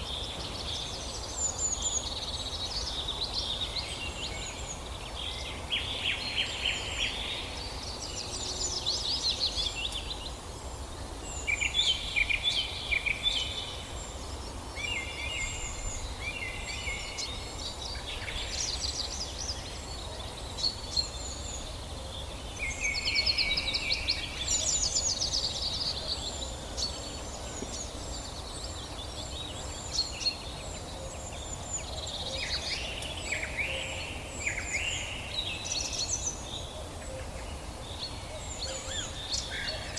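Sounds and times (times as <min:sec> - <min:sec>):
low outdoor ambience hum: 0:00.0 - 0:39.9
songbirds singing: 0:00.0 - 0:39.9.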